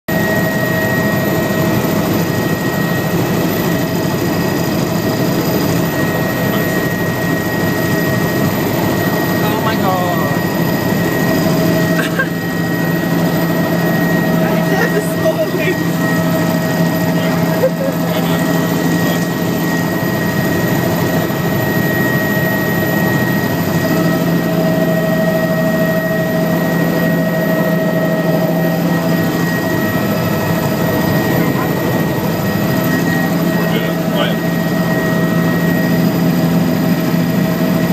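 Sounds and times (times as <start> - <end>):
helicopter engine and rotor drone: 0.1 - 37.9
high whine: 0.1 - 37.9.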